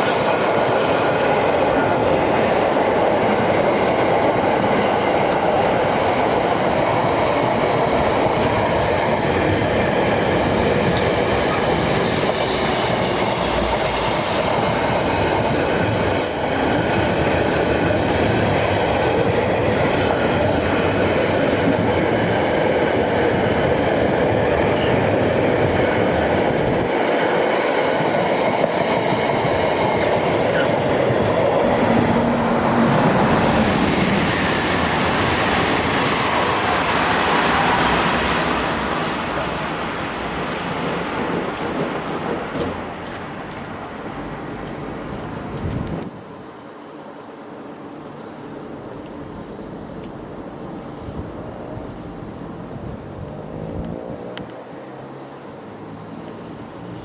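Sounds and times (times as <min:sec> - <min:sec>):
train wheels rumbling on rails: 0:00.0 - 0:47.5.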